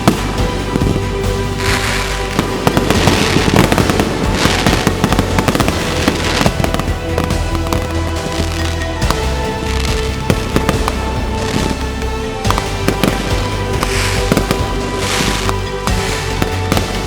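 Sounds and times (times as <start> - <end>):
background music: 0.0 - 17.0
fireworks popping and crackling: 0.0 - 17.0.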